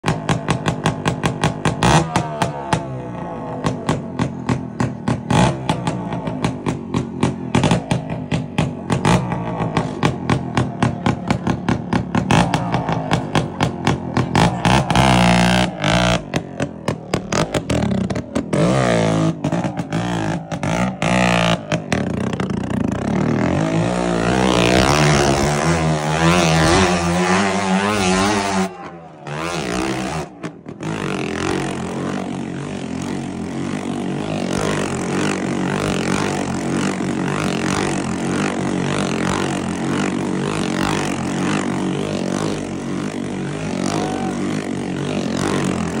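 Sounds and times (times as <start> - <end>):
crowd din: 0.0 - 46.0
small motorcycle engine revving: 0.0 - 46.0.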